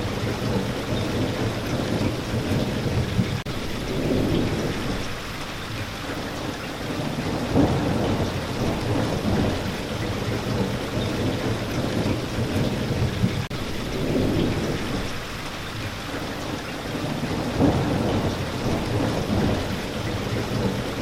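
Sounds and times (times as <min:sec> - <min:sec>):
rolling thunder: 0:00.0 - 0:15.9, 0:16.8 - 0:21.0
steady rain: 0:00.0 - 0:21.0.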